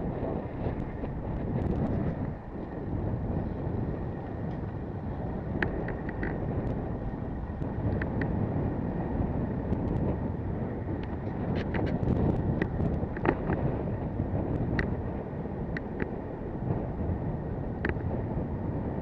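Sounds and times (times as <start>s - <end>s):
road noise: 0.0s - 19.0s
wind rushing over microphone: 0.0s - 19.0s.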